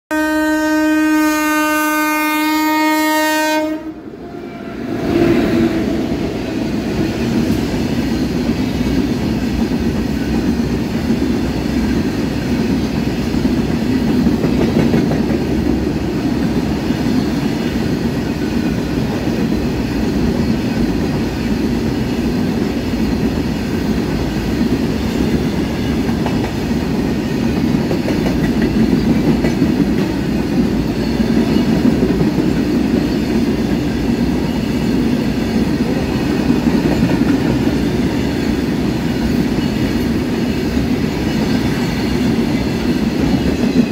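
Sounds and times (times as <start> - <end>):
freight train rumbling past: 0.1 - 43.9
wheels clickety-clack on rails: 6.2 - 43.9.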